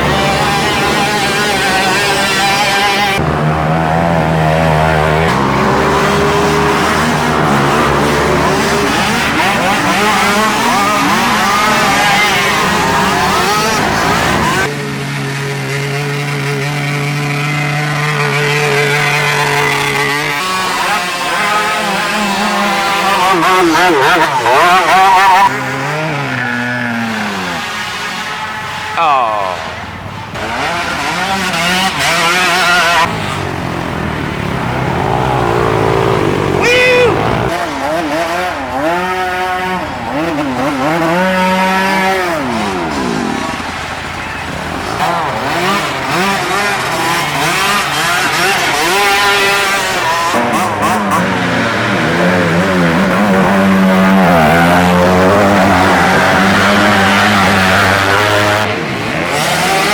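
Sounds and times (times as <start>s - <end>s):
racing atv engines revving: 0.0s - 59.9s.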